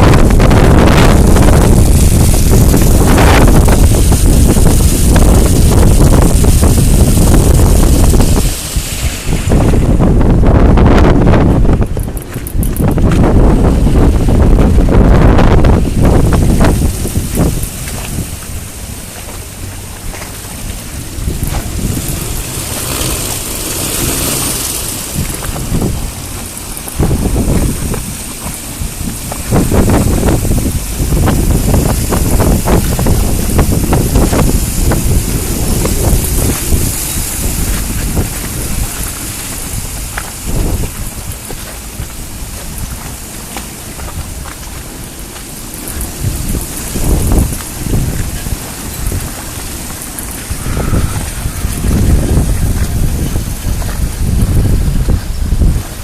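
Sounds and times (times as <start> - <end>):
steady hiss: 0.0 - 56.0
storm wind gusting over microphone: 0.0 - 56.0.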